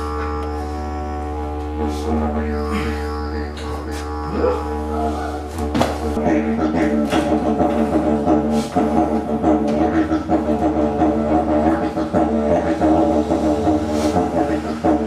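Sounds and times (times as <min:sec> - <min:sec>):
didgeridoo drone: 0:00.0 - 0:15.0.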